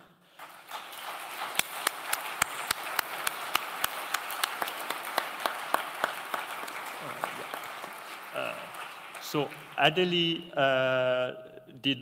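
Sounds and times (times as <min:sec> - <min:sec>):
audience applauding: 0:00.0 - 0:10.4
loud sharp claps: 0:00.0 - 0:10.4.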